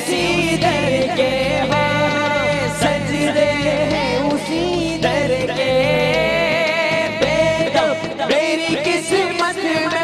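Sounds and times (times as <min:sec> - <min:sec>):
voices singing a devotional song: 0:00.0 - 0:10.0.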